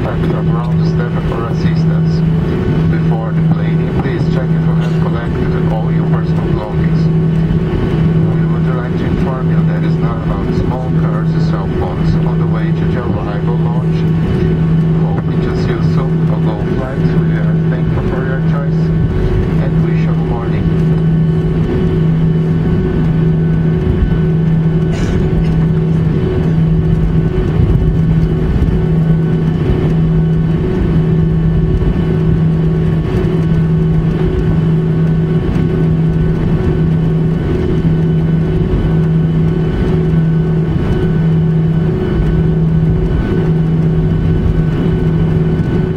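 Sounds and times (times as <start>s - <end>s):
airflow rush: 0.0s - 45.9s
jet engines droning: 0.0s - 45.9s
throbbing low hum: 0.0s - 45.9s.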